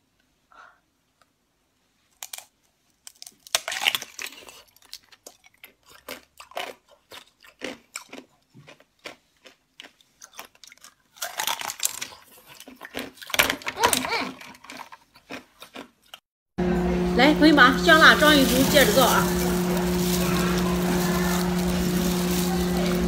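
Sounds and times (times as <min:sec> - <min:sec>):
crunching and chewing brittle ball: 0:02.1 - 0:16.3, 0:18.0 - 0:23.0.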